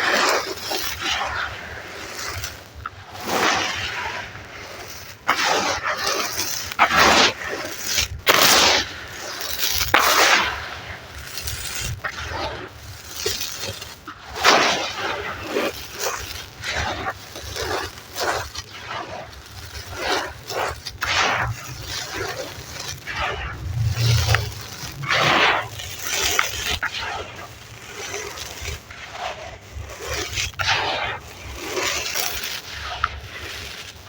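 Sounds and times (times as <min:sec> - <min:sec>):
wet sand crumbling in water: 0:00.0 - 0:34.0.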